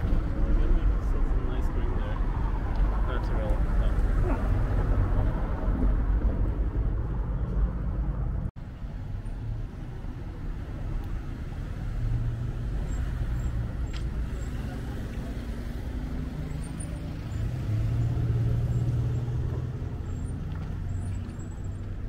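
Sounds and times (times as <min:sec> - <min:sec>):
cars running along road: 0:00.0 - 0:22.0.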